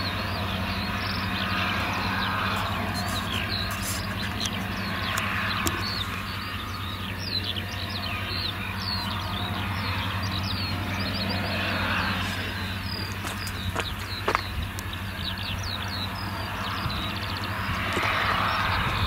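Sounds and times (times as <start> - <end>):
bird chirps: 0.0 - 19.0
harvester engine drone: 0.0 - 19.0
tractor running: 0.0 - 19.0.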